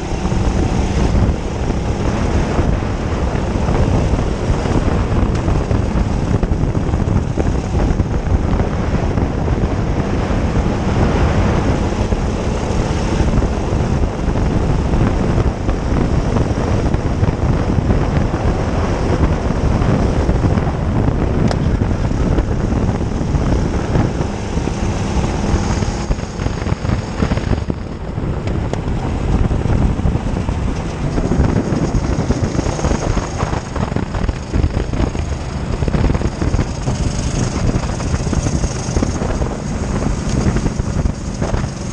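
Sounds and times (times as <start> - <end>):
kart engine racing: 0.0 - 41.9
wind buffeting microphone: 0.0 - 41.9.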